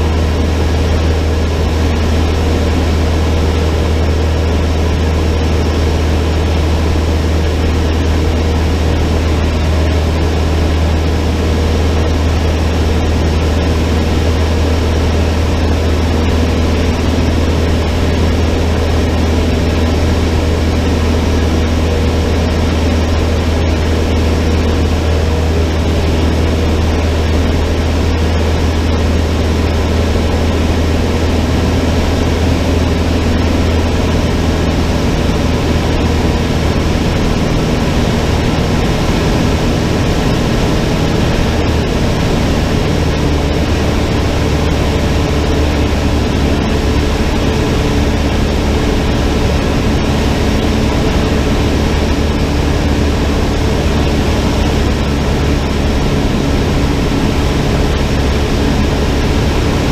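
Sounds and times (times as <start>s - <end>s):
plane engine droning: 0.0s - 59.9s.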